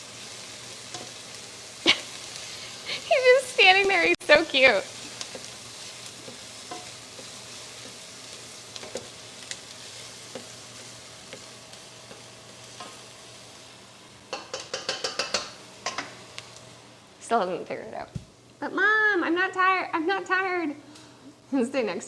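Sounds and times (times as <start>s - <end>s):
food sizzling in a pan: 0.0s - 22.0s.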